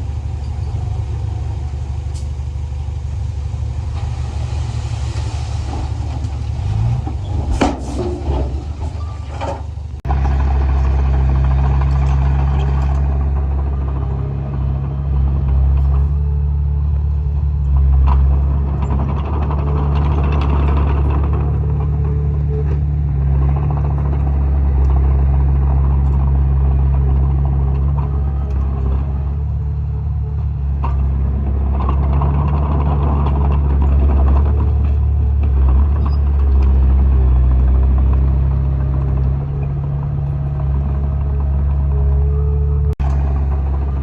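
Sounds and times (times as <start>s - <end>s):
bulldozer diesel engine running: 0.0s - 44.0s.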